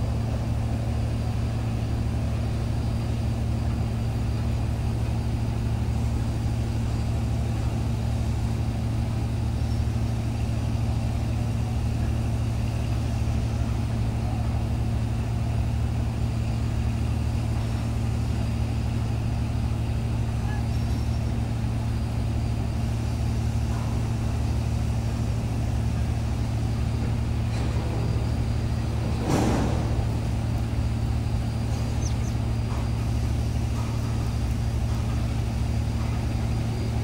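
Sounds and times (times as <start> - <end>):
diesel engine humming: 0.0 - 37.0.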